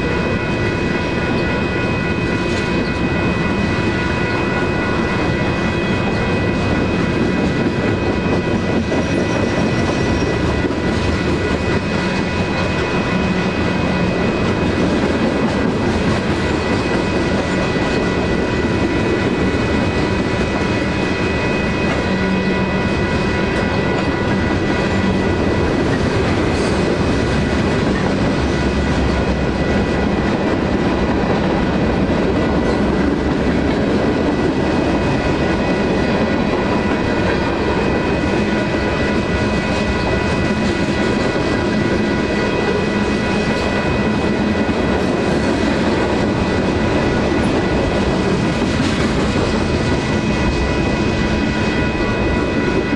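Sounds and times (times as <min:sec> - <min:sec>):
crossing bells ringing: 0:00.0 - 0:52.9
train wheels on rails: 0:00.0 - 0:52.9.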